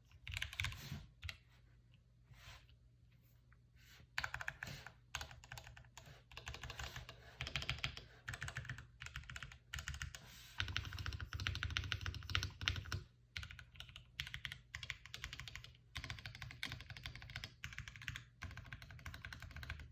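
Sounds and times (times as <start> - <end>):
mechanical keyboard typing: 0.2 - 0.8, 4.2 - 19.9.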